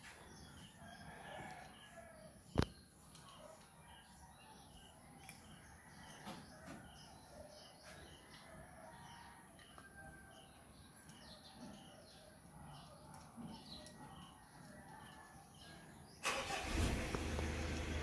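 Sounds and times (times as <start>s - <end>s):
bird chirping: 0.0s - 16.2s.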